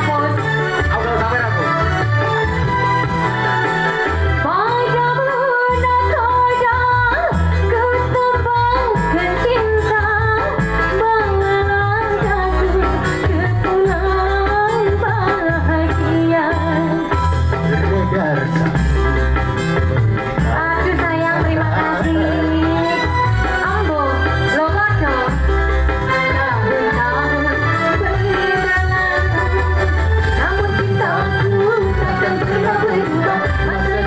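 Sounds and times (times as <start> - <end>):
person singing: 3.1 - 34.0
pulsing bass beat: 5.8 - 34.0.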